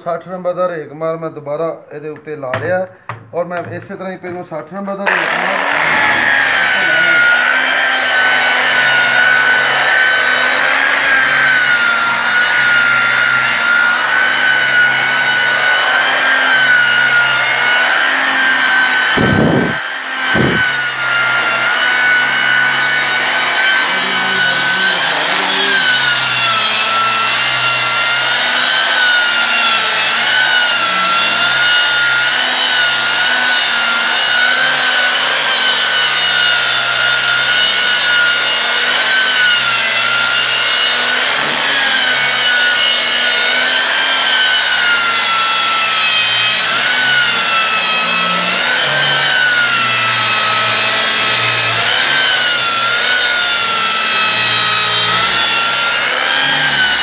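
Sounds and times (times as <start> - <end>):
angle grinder sanding wood: 5.0 - 57.0.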